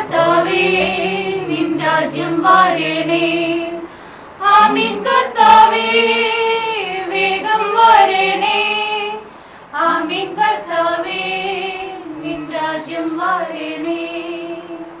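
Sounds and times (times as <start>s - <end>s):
women singing a hymn: 0.0s - 15.0s.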